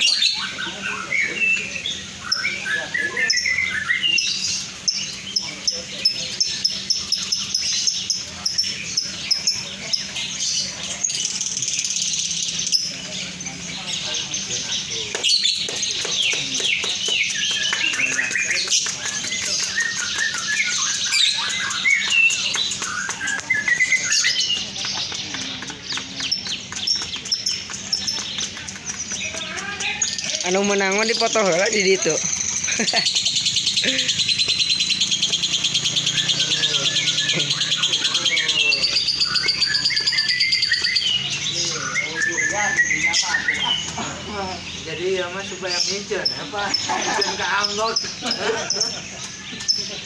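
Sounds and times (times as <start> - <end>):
birds chirping: 0.0 - 50.0
lovebirds chattering: 0.0 - 50.0
murmur of voices: 0.0 - 50.0.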